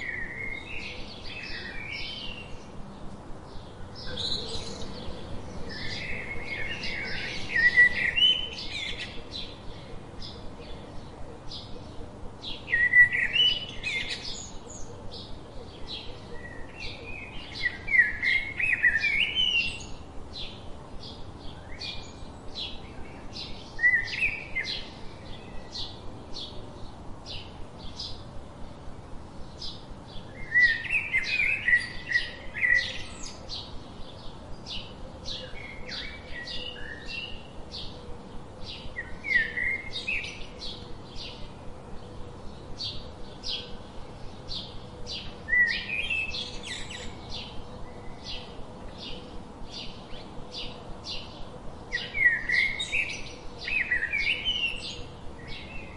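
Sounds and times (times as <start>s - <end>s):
birds twittering chatter: 0.0s - 55.9s
sparrows chirping: 0.0s - 55.9s.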